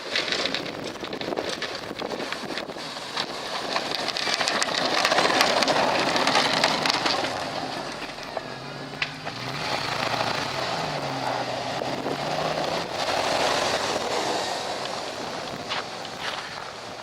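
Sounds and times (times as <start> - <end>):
snowplow scraping snow: 0.0 - 17.0.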